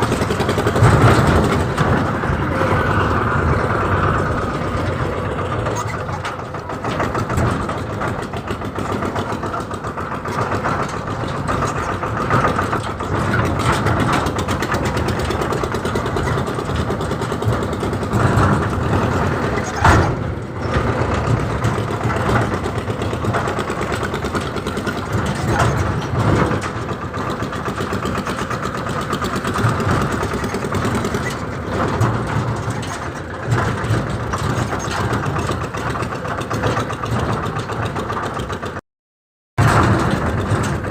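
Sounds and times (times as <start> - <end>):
tractor diesel engine running: 0.0 - 38.8, 39.6 - 40.9.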